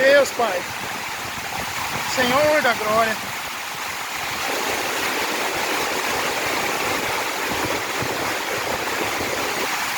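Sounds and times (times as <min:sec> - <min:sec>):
heavy rain pouring: 0:00.0 - 0:09.9
strong wind: 0:00.0 - 0:09.9.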